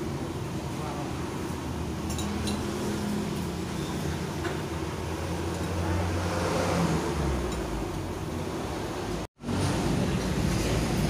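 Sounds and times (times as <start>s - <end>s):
road traffic engine rumble: 0.0s - 11.0s.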